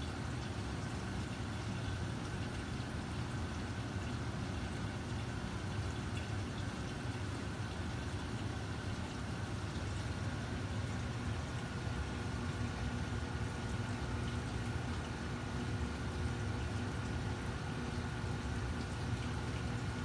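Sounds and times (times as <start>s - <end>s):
aquarium pumps humming: 0.0s - 20.0s
water running through pipes: 0.0s - 20.0s.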